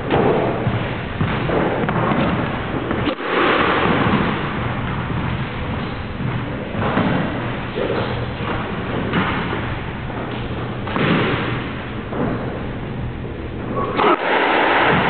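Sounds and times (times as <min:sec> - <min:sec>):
squash ball hitting racket and wall: 0:00.0 - 0:15.0.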